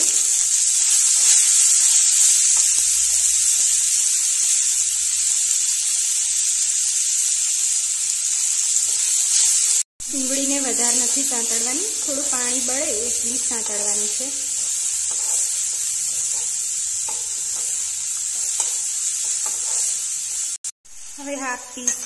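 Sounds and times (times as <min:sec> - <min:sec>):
onion sizzling in a pan: 0:00.0 - 0:22.0.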